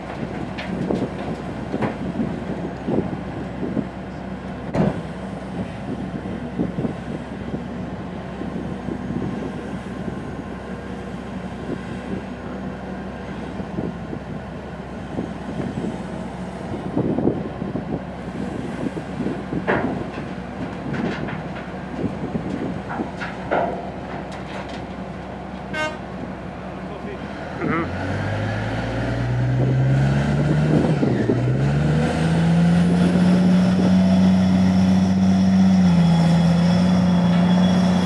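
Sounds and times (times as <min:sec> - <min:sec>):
hydraulic shovel and truck running: 0:00.0 - 0:38.0.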